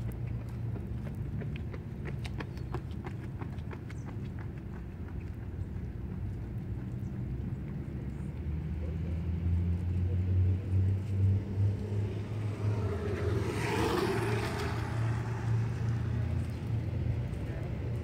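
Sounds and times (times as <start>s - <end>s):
vehicle engines humming: 0.0s - 18.0s
vehicle passing by: 0.0s - 18.0s.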